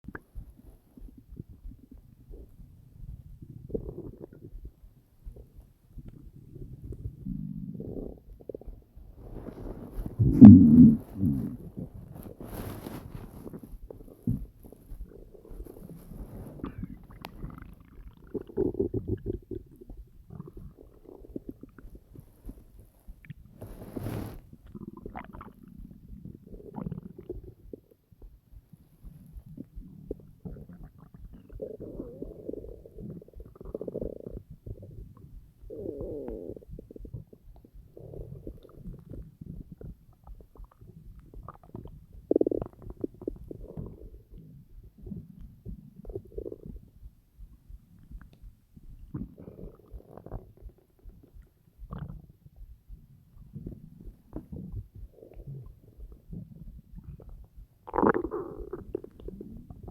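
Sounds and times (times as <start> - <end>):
stomach growling and gurgling: 0.0 - 59.9.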